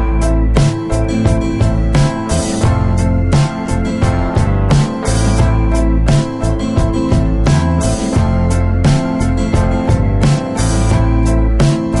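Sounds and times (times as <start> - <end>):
upbeat music with plucked guitar: 0.0 - 12.0.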